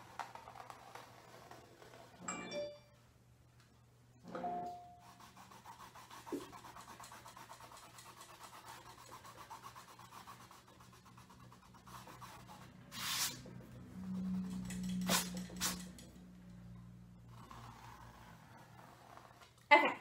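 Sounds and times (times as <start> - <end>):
pencil scratching on canvas: 0.0 - 2.2, 4.9 - 16.0, 16.8 - 19.7.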